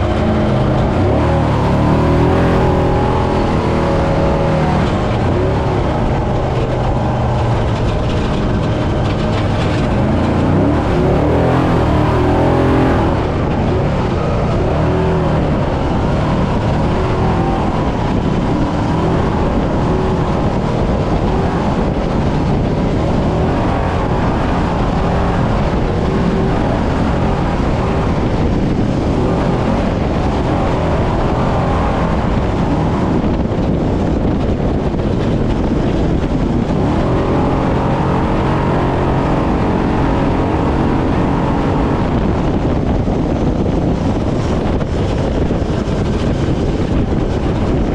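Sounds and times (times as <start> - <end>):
loud wind: 0.0 - 47.9
rough terrain noise: 0.0 - 47.9
truck engine revving: 0.0 - 47.9.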